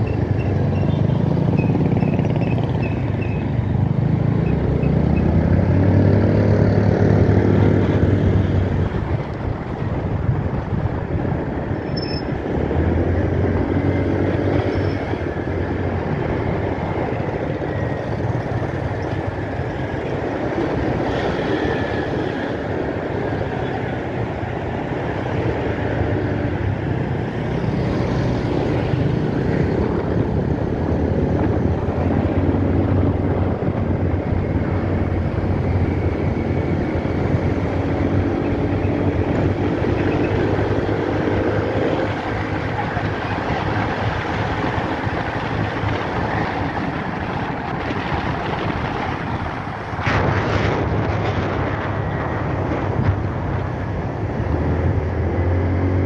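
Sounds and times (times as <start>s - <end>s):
passing traffic: 0.0s - 56.0s
road noise: 0.0s - 56.0s.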